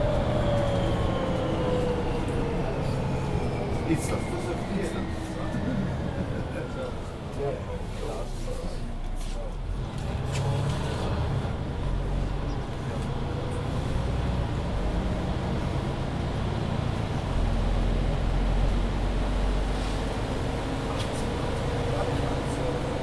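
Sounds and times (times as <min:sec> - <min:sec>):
bus engine rumble: 0:00.0 - 0:23.0
road noise: 0:00.0 - 0:23.0.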